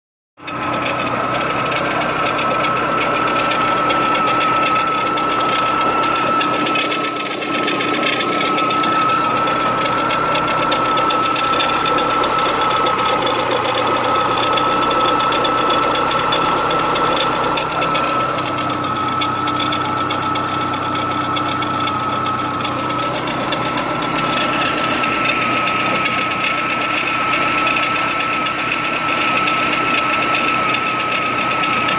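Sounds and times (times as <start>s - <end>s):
car engine running: 0.4s - 31.9s
high-pitched engine whine: 0.4s - 31.9s.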